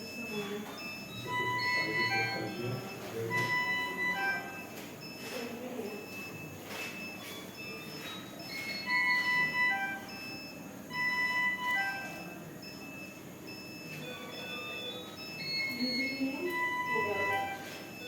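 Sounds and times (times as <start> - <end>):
monitor beeps and alarm chimes: 0.0 - 18.0.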